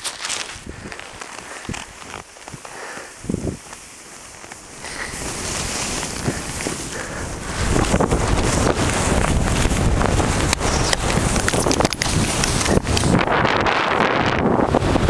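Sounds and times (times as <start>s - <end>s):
skis sliding through snow: 0.0s - 15.0s
wind buffeting microphone: 0.5s - 3.7s, 4.6s - 15.0s.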